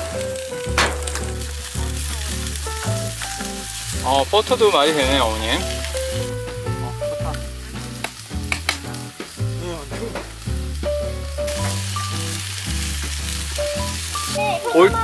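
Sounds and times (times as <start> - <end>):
background music with bass: 0.0 - 15.0
food sizzling on a barbecue: 0.0 - 15.0.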